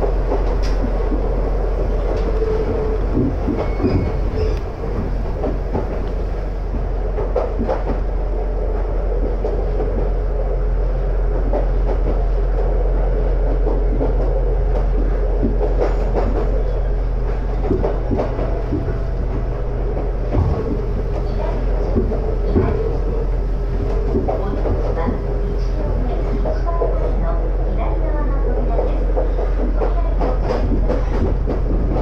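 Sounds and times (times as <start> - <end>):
rail joint clacks: 0.0 - 32.0
train wheels rumbling on rails: 0.0 - 32.0.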